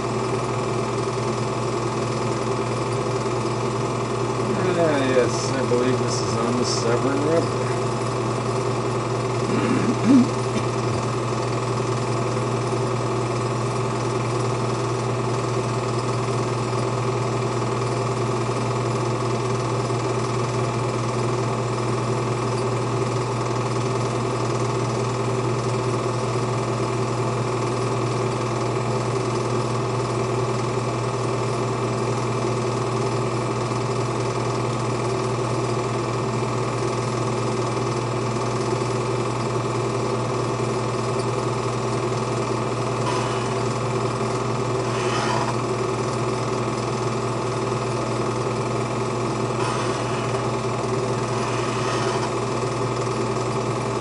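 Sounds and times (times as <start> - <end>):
film projector clatter and whir: 0.0 - 54.0.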